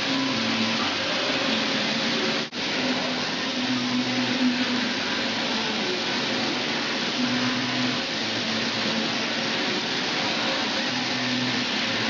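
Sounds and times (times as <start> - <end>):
low electrical hum: 0.0 - 12.0
welding arc hissing: 0.0 - 12.0.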